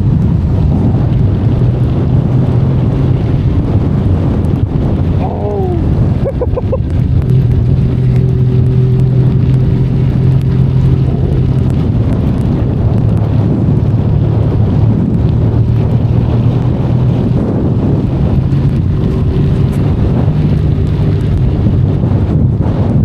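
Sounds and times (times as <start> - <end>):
motorcycle engine cruising: 0.0 - 23.0
wind and rain hiss: 0.0 - 23.0.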